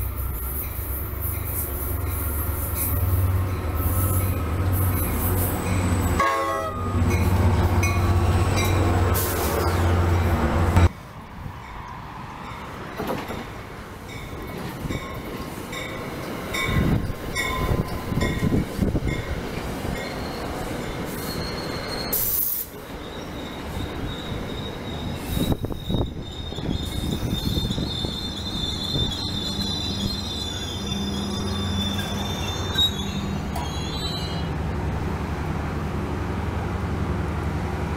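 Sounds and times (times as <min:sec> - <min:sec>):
train wheels squealing on rails: 0:00.0 - 0:10.9, 0:14.0 - 0:34.6.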